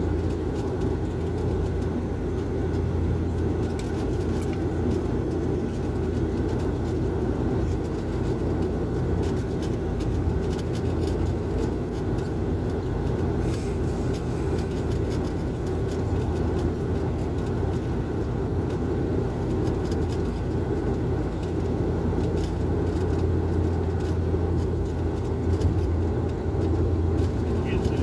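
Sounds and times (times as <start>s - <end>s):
airliner engine drone: 0.0s - 28.0s.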